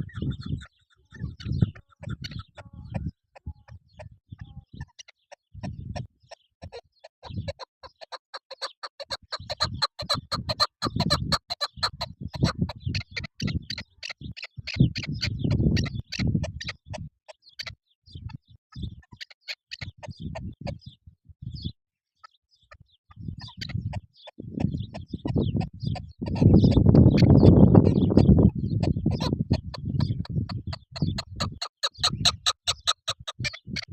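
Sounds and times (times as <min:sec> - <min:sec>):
partridge clucking calls: 0:00.0 - 0:21.0, 0:22.2 - 0:33.9.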